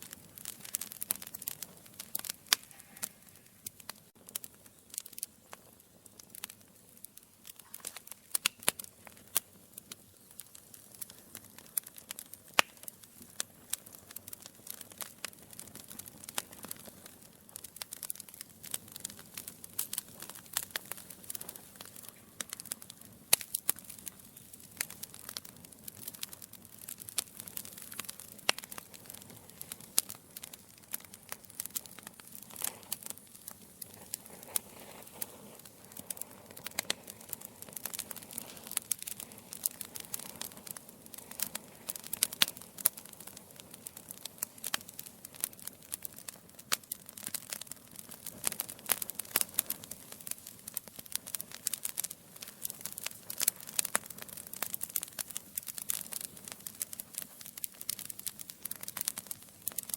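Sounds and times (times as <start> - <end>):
fire snapping: 0.0 - 59.9
soft fire hiss: 0.0 - 59.9
wood fire crackling and popping: 0.0 - 59.9.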